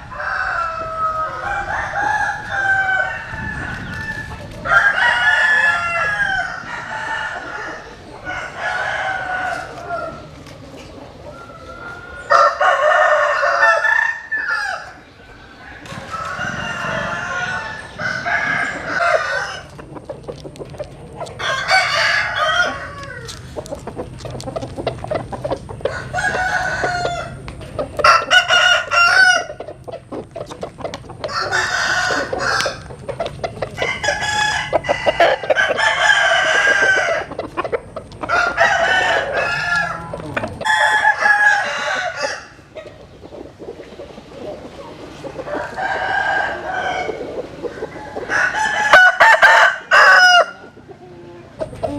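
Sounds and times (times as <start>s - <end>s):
chickens clucking: 0.0s - 51.9s
roosters crowing: 0.0s - 51.9s.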